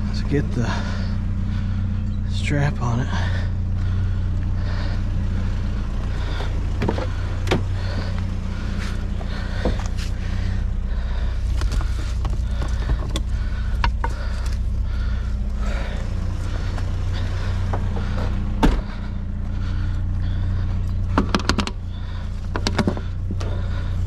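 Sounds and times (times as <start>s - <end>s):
pickup truck engine idling: 0.0s - 24.0s.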